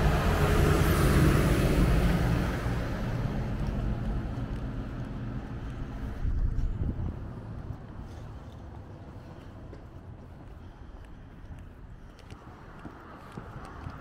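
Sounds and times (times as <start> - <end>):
heavy truck engine rumble: 0.0 - 14.0
road traffic noise: 0.0 - 14.0.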